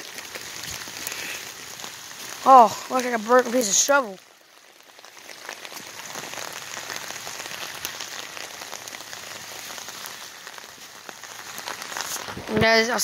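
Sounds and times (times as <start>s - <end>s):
heavy rain falling: 0.0s - 13.0s
raindrops hitting an umbrella: 0.0s - 13.0s.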